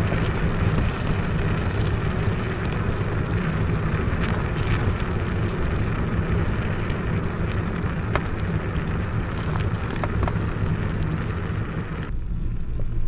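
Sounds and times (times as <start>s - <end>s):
clicks of grit or stones: 0.0s - 12.1s
tyre noise: 0.0s - 12.1s
wind rumble on microphone: 0.0s - 13.0s.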